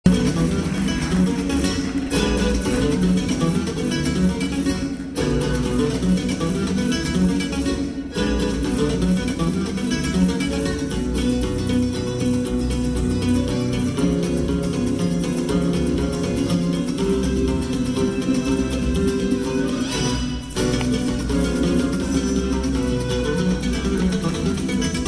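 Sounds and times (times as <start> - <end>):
latin dance music with guitar: 0.0 - 25.0.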